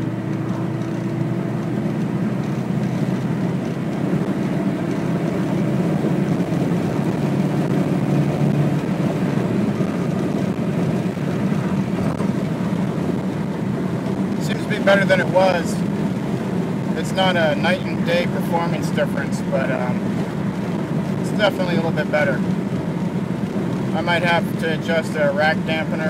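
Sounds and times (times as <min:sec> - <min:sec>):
diesel engine at full throttle: 0:00.0 - 0:26.0.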